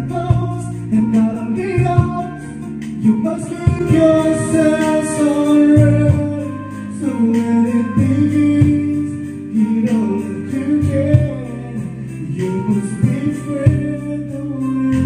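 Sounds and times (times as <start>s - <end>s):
karaoke ballad with singing: 0.0s - 15.0s.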